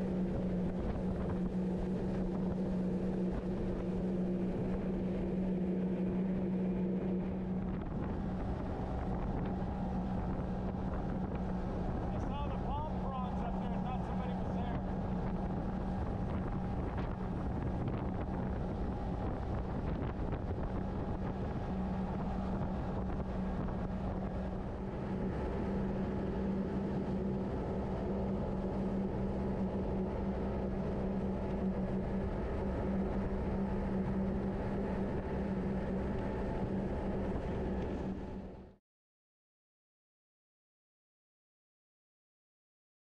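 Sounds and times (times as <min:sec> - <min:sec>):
wind noise on microphone: 0:00.0 - 0:38.6
outboard motor running: 0:00.0 - 0:38.8.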